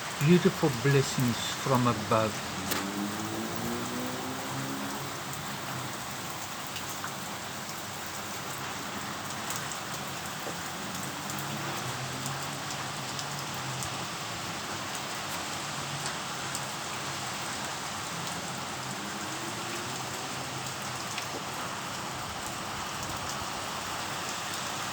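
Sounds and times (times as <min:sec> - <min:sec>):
rain falling: 0:00.0 - 0:24.9
raindrops ticking on surfaces: 0:00.0 - 0:24.9.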